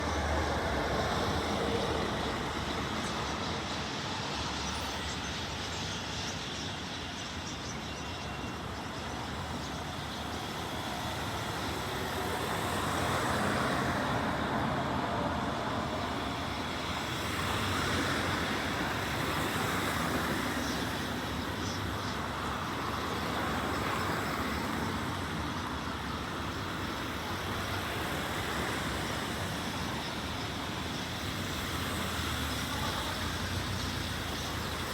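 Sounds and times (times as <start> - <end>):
vehicles passing: 0.0 - 5.1, 10.2 - 34.9
road traffic noise: 0.0 - 34.9.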